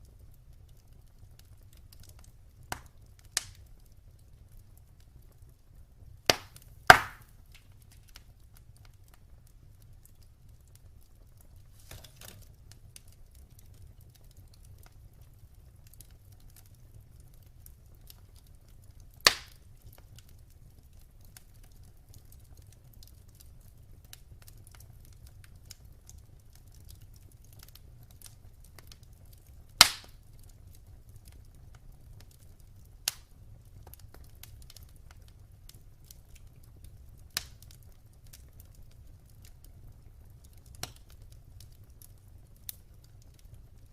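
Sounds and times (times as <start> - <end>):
burning wood popping: 0.0 - 43.9
fire crackling: 0.0 - 43.9.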